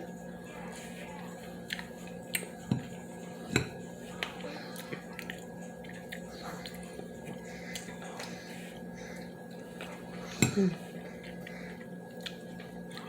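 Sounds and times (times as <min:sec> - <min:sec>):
steady faint hum: 0:00.0 - 0:13.0.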